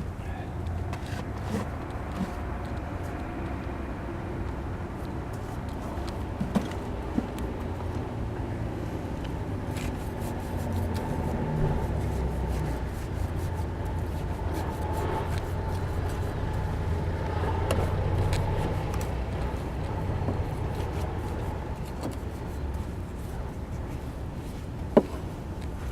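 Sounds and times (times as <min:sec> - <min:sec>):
low motor rumble: 0:00.0 - 0:25.9.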